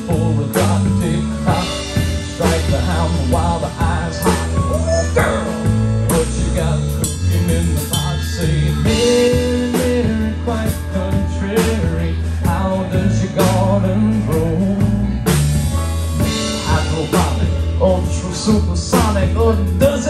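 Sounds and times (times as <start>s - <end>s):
drum and cymbal hits: 0.0s - 20.0s
electric bass: 0.0s - 20.0s
electric guitars: 0.0s - 20.0s.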